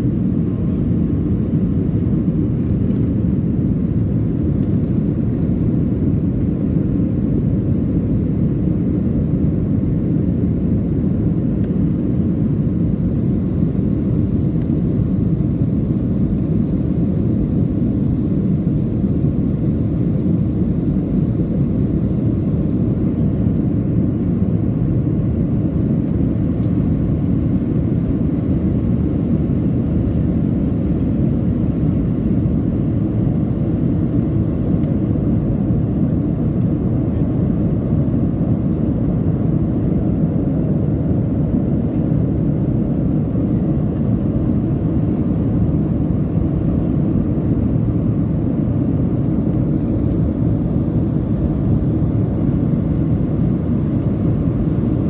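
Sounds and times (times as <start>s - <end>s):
jet engines roaring in cabin: 0.0s - 55.0s.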